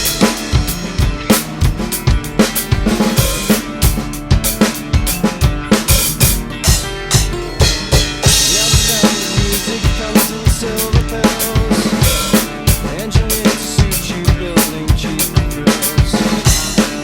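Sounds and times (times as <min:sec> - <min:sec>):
guitar and bass: 0:00.0 - 0:17.0
rock drum kit: 0:00.0 - 0:17.0.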